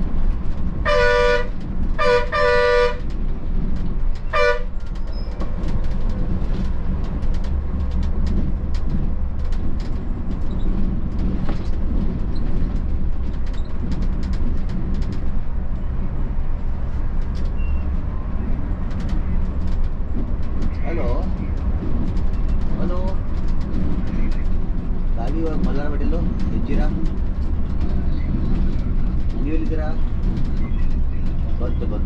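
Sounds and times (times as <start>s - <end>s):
bus diesel engine rumbling: 0.0s - 32.0s
bus rattling and knocking: 0.0s - 32.0s.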